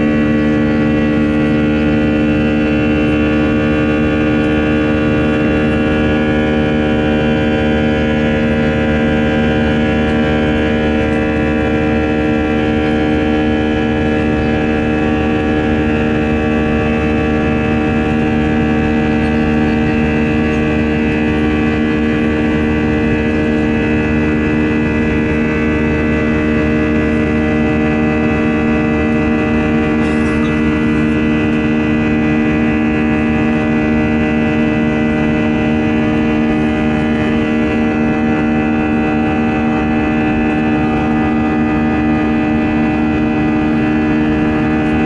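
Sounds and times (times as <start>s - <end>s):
jet engine drone in cabin: 0.0s - 45.0s.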